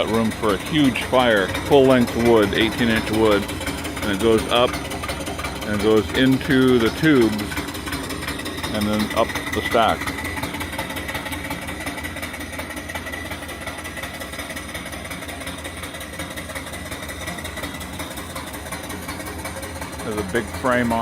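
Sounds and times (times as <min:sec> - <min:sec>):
steam engine exhaust puffing: 0:00.0 - 0:21.0.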